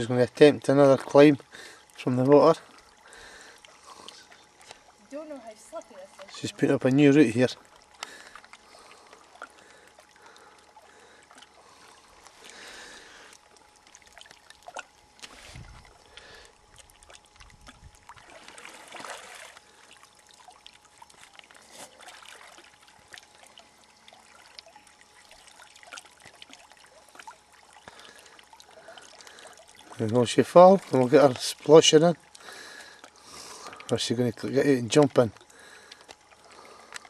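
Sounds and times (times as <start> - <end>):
water drips and splashes: 0.0 - 37.0
water lapping and trickling: 0.0 - 37.0.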